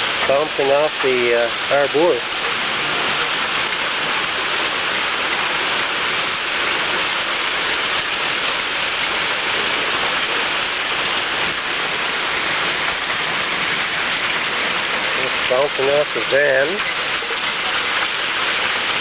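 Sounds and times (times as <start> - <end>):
hail and heavy rain pelting: 0.0 - 19.0.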